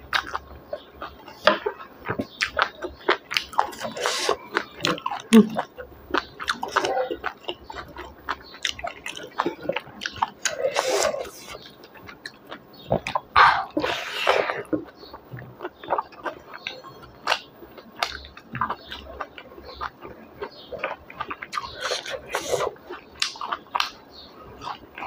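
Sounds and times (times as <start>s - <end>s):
chewing food: 0.0s - 25.0s.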